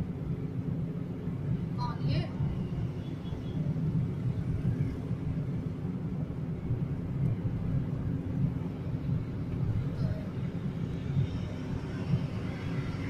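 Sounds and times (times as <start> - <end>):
car engine and tyres rumble: 0.0 - 13.0.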